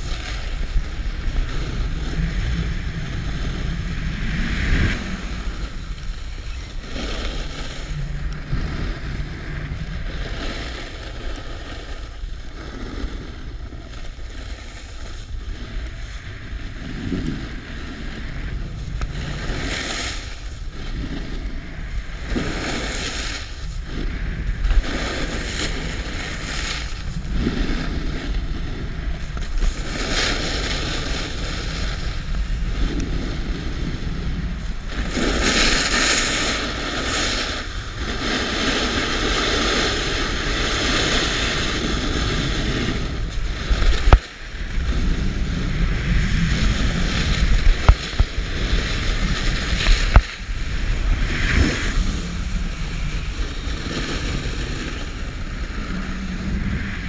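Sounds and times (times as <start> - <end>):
snowboard edges scraping snow: 0.0 - 57.0
wind on microphone: 0.0 - 57.0.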